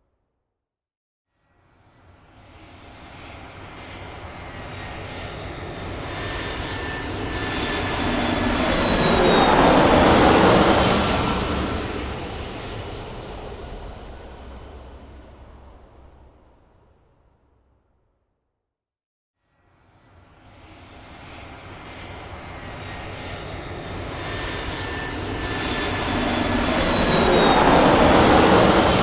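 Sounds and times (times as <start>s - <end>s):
airplane flying past: 1.8s - 16.6s, 19.9s - 29.0s.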